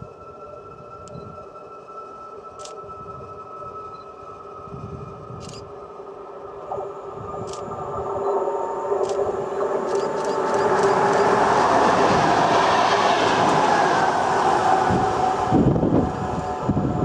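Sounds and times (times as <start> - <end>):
train rumble and wheel noise: 0.0 - 17.0.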